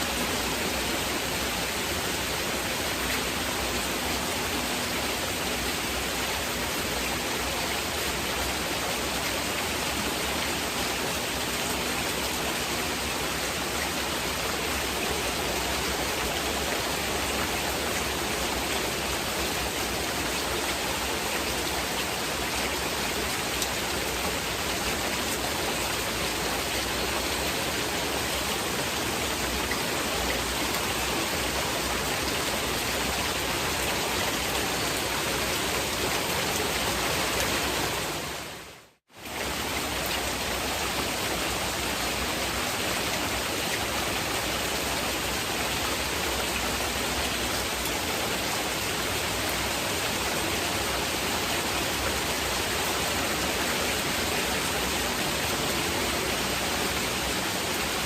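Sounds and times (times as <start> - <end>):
steady heavy rain: 0.0 - 58.0.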